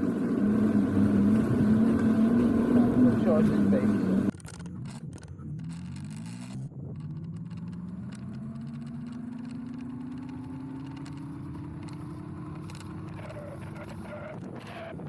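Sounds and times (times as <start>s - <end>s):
vehicle motor hum rising in pitch: 0.0s - 15.0s.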